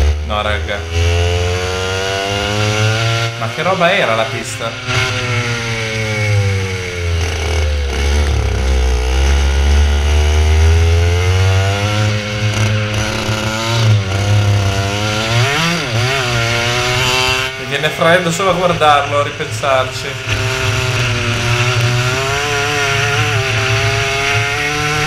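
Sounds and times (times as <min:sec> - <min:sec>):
kart engine revving: 0:00.0 - 0:25.0.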